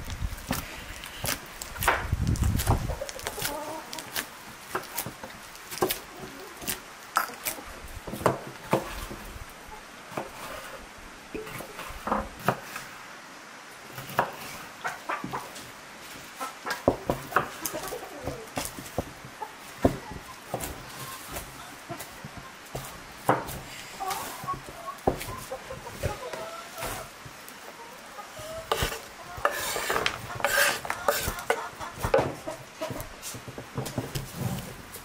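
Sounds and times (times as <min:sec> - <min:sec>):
chickens clucking: 0:00.5 - 0:10.8, 0:14.1 - 0:34.4.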